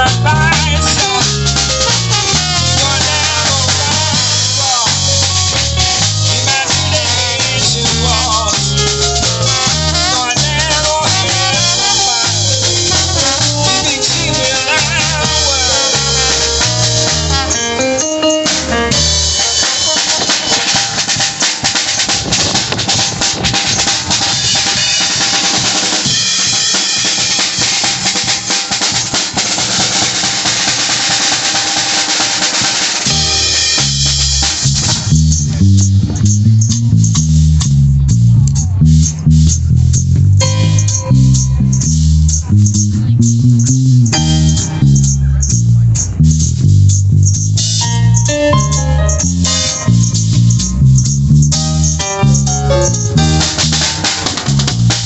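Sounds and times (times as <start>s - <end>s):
drum kit playing: 0.0s - 55.0s
keyboard playing: 0.0s - 55.0s
walking bass line: 0.0s - 55.0s.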